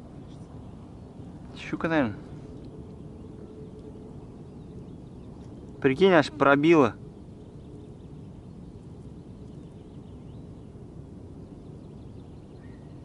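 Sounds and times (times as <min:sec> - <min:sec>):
distant bird chirps: 0:00.0 - 0:13.0
low outdoor background noise: 0:00.0 - 0:13.0.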